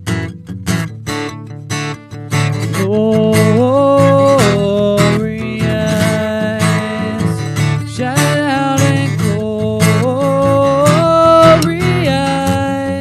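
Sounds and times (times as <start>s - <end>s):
held melody line: 0.0s - 13.0s
strummed acoustic guitar: 0.0s - 13.0s.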